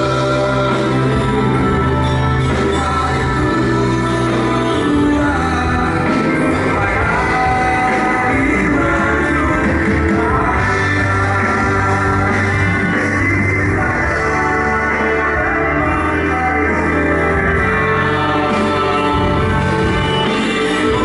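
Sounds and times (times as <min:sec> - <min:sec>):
band playing guitar: 0:00.0 - 0:21.0
person singing: 0:00.0 - 0:21.0.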